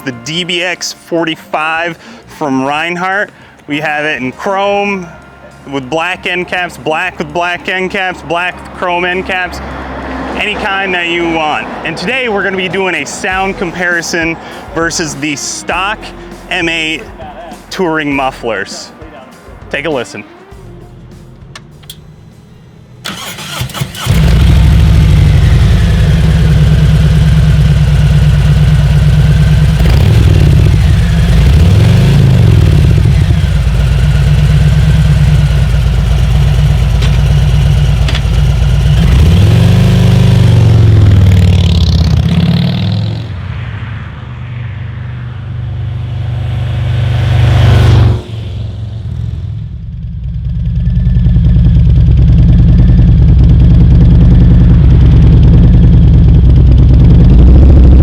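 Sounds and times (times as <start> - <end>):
motorcycle engine idling and revving: 5.2 - 58.0.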